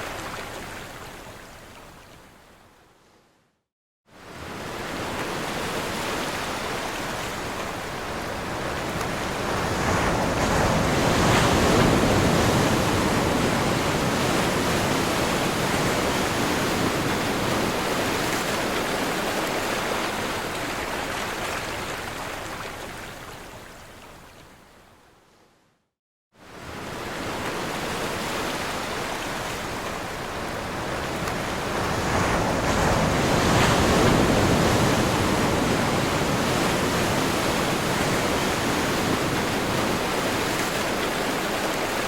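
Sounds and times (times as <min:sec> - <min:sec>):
ocean waves breaking on shore: 0:04.1 - 0:23.9, 0:26.4 - 0:42.0.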